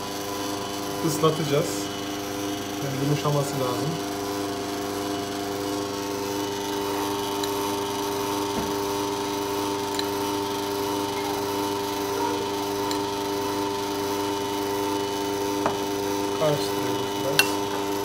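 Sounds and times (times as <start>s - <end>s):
stand mixer motor hum: 0.0s - 18.0s.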